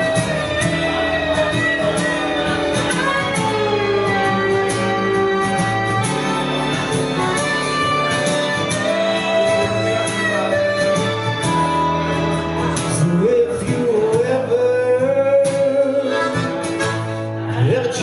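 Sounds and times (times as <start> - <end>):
acoustic guitar: 0.0 - 18.0
harmonica melody: 0.0 - 18.0.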